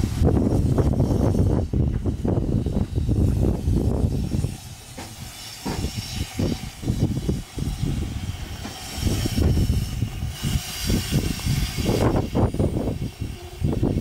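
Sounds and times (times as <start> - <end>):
steam hissing: 0.0 - 14.0
steam locomotive chuffing: 0.0 - 14.0.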